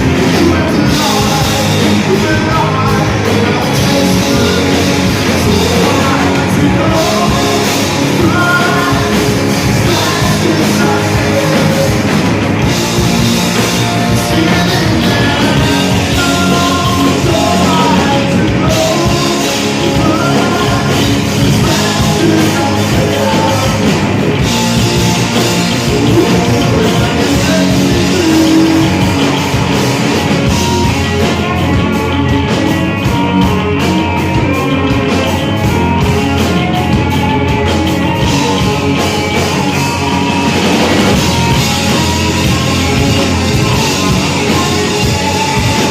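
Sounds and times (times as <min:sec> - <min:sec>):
person singing: 0:00.0 - 0:45.9
rock band playing: 0:00.0 - 0:45.9.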